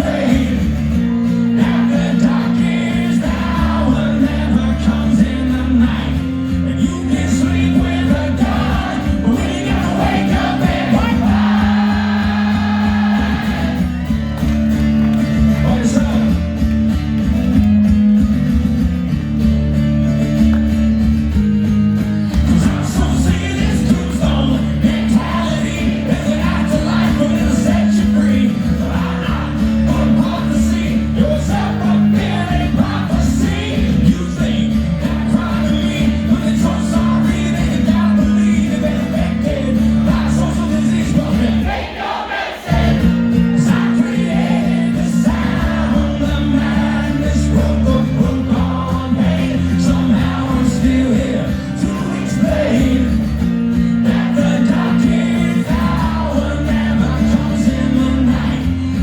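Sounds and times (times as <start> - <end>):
man singing: 0.0 - 13.8, 15.5 - 16.5, 22.5 - 41.9, 42.7 - 59.0
strummed acoustic guitar: 0.0 - 59.0.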